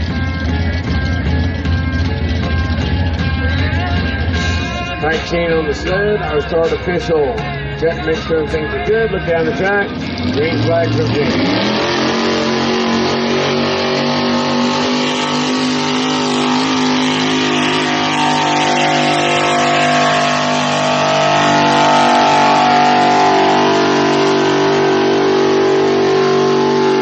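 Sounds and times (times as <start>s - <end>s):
truck engine at full throttle: 0.0s - 27.0s.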